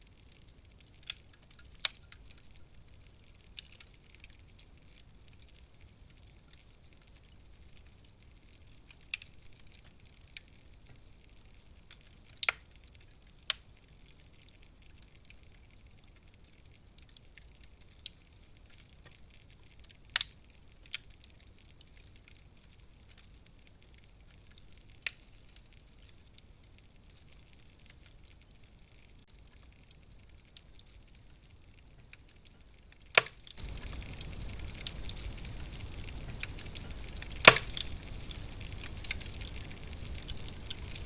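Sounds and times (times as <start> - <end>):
faint steady hiss: 0.0 - 41.0
wood fire crackling: 0.0 - 41.0.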